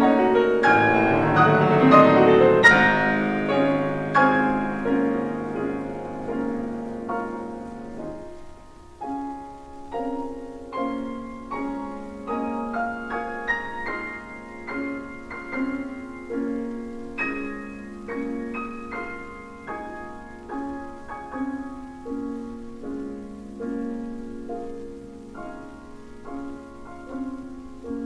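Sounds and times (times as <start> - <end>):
solo piano chords: 0.0 - 28.0.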